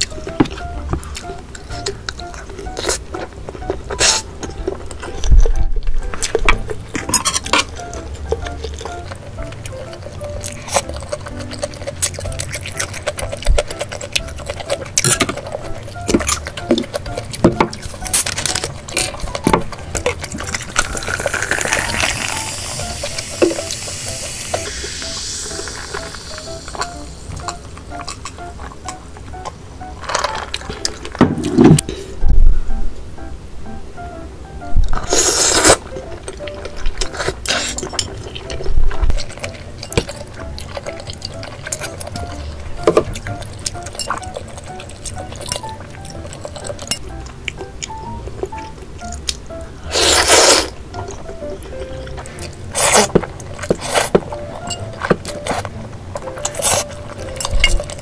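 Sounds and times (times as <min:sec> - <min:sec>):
utensils clinking against dishes: 0:00.0 - 0:28.7, 0:35.0 - 0:47.6, 0:51.0 - 0:58.0
faint background music: 0:00.0 - 0:58.0
steady sizzling hiss: 0:00.0 - 0:58.0.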